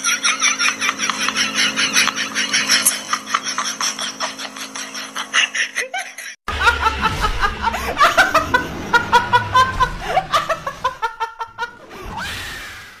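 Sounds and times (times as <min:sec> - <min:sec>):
woman laughing wildly: 0:00.0 - 0:11.8.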